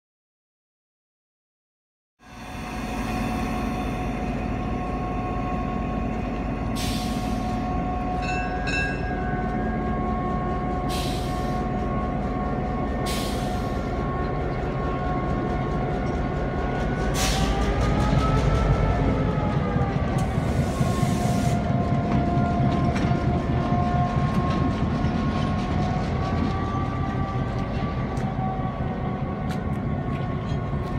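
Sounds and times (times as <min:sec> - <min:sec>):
diesel locomotive engine running: 0:02.2 - 0:30.9.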